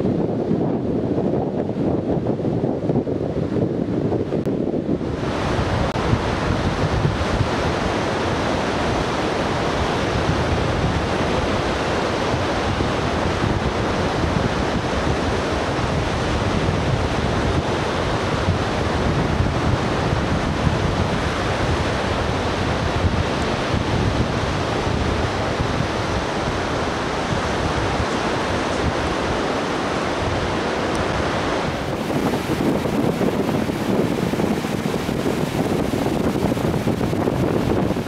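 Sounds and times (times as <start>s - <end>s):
wind buffeting microphone: 0.0s - 38.0s
surf breaking on beach: 4.3s - 38.0s.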